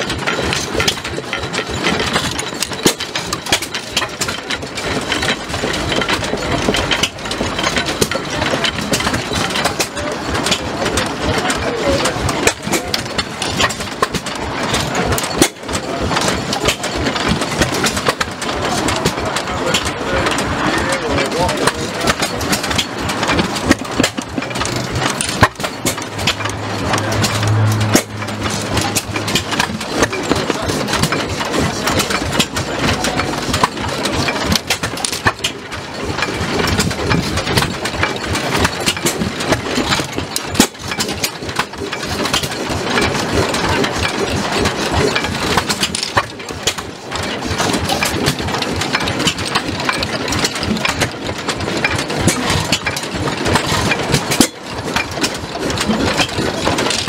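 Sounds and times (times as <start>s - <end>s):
vintage engine running: 0.0s - 57.0s.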